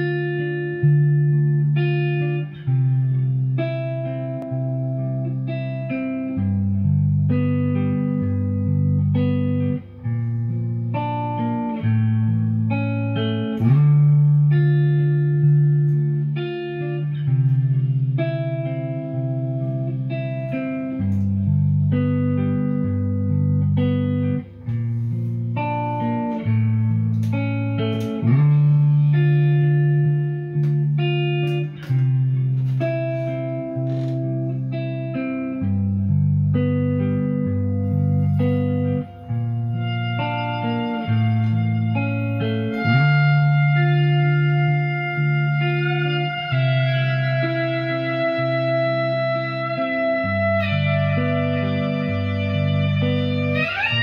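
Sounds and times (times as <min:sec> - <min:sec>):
looped electric guitar: 0:00.0 - 0:54.0.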